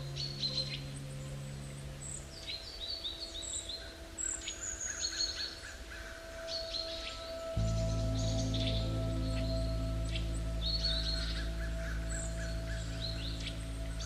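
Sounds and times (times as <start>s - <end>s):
soft music drone: 0.0s - 14.0s
songbirds chirping and whistling: 0.0s - 14.0s.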